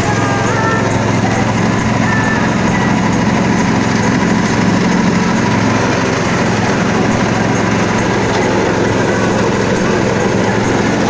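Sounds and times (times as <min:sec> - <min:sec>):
grinding machine droning: 0:00.0 - 0:11.0.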